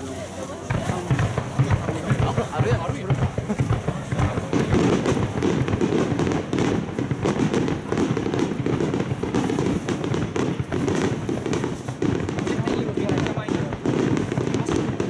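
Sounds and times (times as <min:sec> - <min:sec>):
firework shells bursting: 0:00.6 - 0:15.0.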